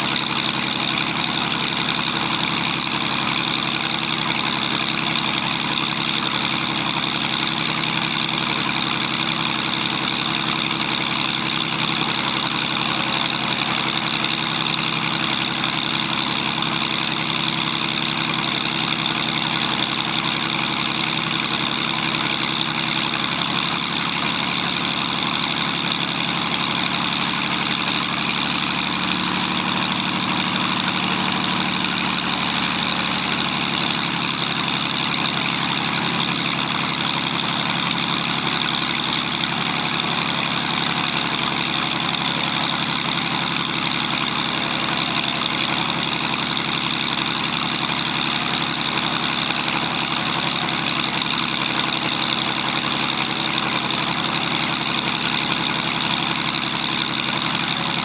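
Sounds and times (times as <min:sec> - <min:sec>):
aircraft engine idling: 0:00.0 - 0:58.0.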